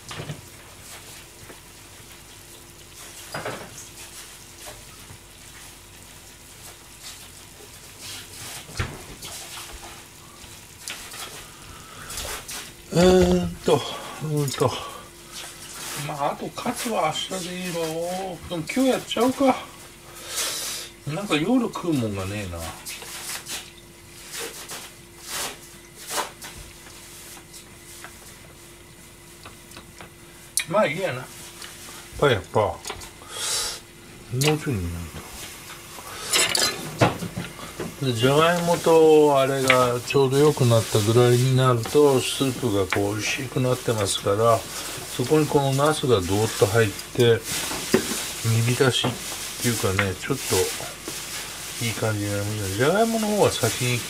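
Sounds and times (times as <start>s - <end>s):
running water hiss: 0.0s - 29.2s, 30.2s - 54.0s
steady low hum: 4.0s - 54.0s.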